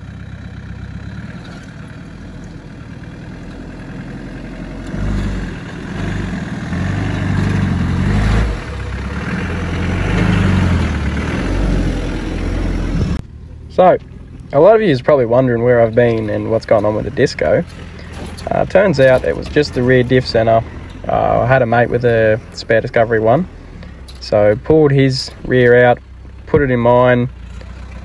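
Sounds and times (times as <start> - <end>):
diesel truck engine surging: 0.0 - 28.0.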